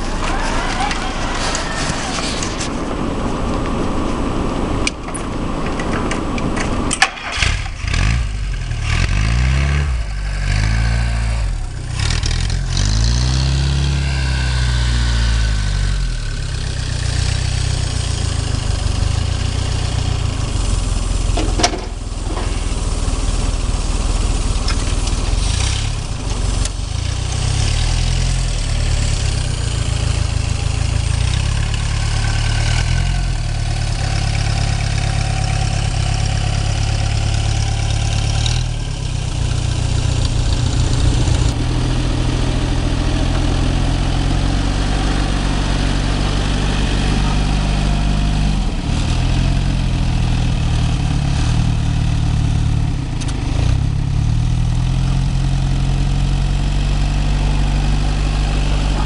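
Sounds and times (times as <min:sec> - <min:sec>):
engine idling: 0:00.0 - 0:59.0
engine starting and revving: 0:06.9 - 0:49.9, 0:50.5 - 0:59.0.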